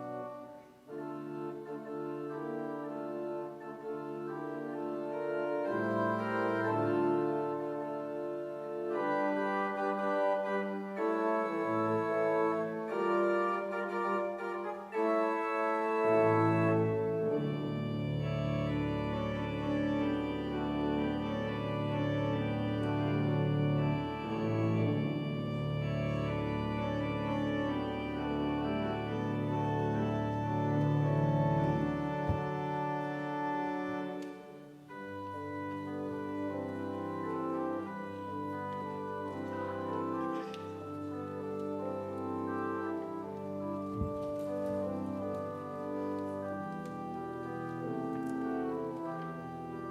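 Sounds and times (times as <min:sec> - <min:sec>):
organ playing slow chords: 0:00.0 - 0:49.9.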